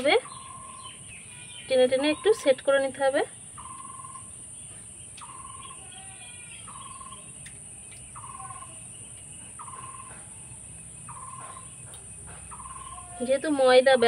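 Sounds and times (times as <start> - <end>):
faint high chirps: 0.0 - 2.7, 3.3 - 13.7
bird calling: 0.0 - 14.0.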